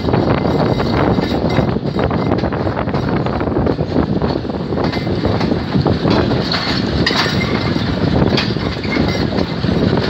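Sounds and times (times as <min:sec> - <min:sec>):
train wheels rumbling on rails: 0:00.0 - 0:10.0
wheels clicking over rail joints: 0:00.0 - 0:10.0.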